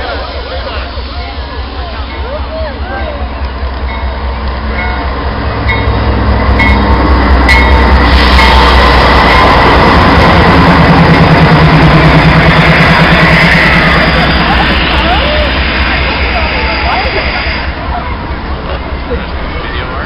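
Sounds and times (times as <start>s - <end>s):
diesel locomotive engine drone: 0.0s - 20.0s
train cars rumbling and rattling: 0.0s - 20.0s.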